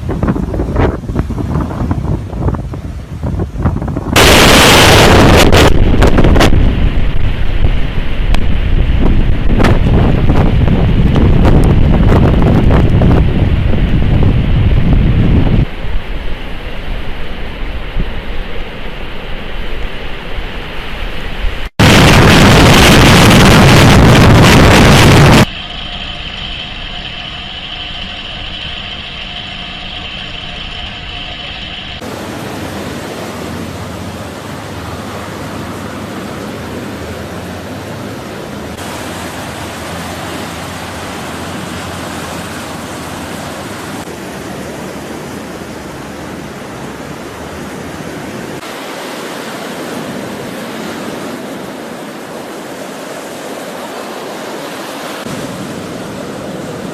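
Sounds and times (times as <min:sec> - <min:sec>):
wind buffeting microphone: 0:00.0 - 0:20.6, 0:21.3 - 0:48.7
rough sea: 0:00.0 - 0:56.9
strong wind: 0:00.0 - 0:56.9
steady hum: 0:02.0 - 0:51.7.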